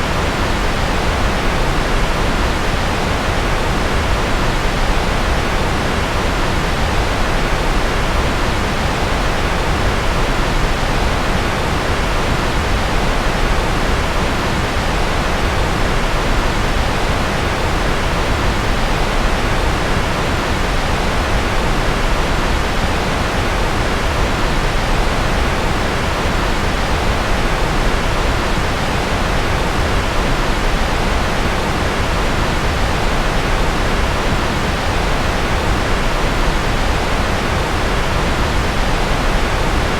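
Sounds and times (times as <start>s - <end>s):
white noise rushing: 0.0s - 39.9s.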